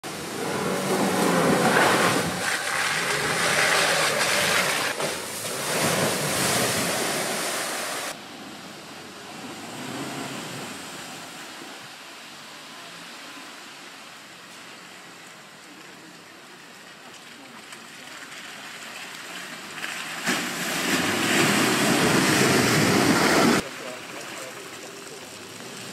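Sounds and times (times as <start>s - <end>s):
tyres splashing through puddles: 0.0s - 25.9s
vehicle crawling over mud: 0.0s - 25.9s.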